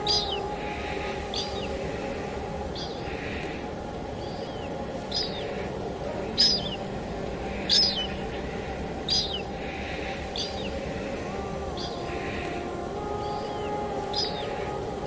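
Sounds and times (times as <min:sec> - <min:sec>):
rain falling: 0:00.0 - 0:15.0
songbird high call: 0:00.0 - 0:15.0.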